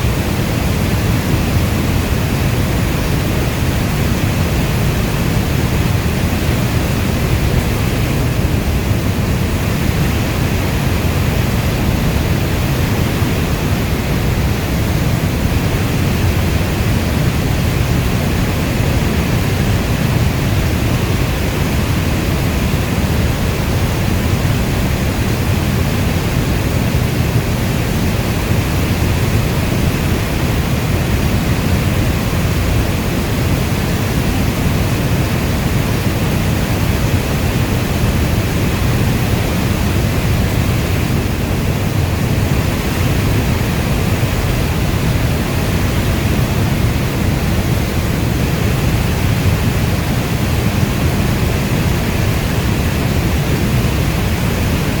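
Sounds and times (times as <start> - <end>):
heavy rainfall: 0.0 - 55.0.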